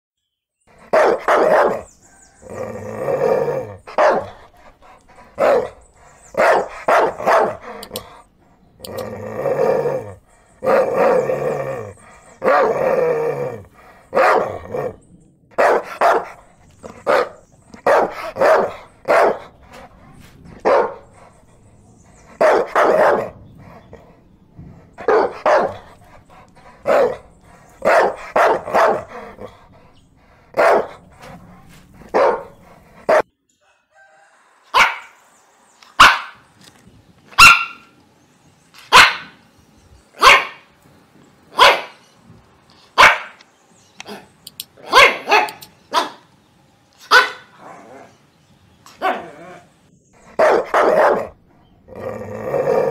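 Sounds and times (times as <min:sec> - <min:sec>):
dogs barking: 0:00.8 - 0:08.3, 0:09.8 - 0:24.1, 0:24.8 - 0:33.4, 0:34.7 - 0:35.2, 0:36.0 - 0:36.5, 0:37.3 - 0:38.0, 0:38.8 - 0:39.4, 0:40.1 - 0:40.7, 0:41.5 - 0:42.1, 0:42.9 - 0:46.3, 0:47.0 - 0:48.1, 0:48.9 - 0:52.9.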